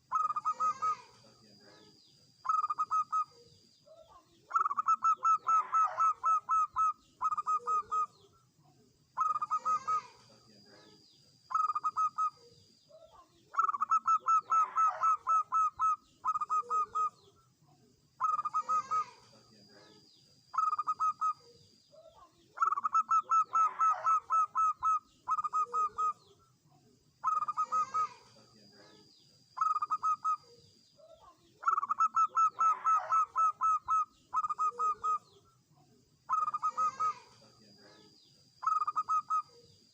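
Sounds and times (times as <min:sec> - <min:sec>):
dove cooing: 0:00.0 - 0:08.3, 0:09.2 - 0:17.3, 0:18.2 - 0:26.3, 0:27.2 - 0:35.4, 0:36.3 - 0:39.7.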